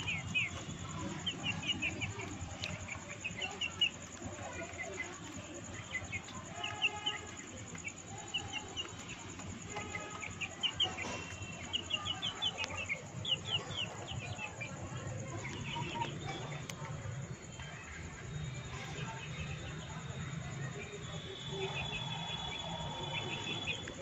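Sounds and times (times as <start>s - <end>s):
young chickens peeping: 0.0s - 20.0s, 20.8s - 24.0s.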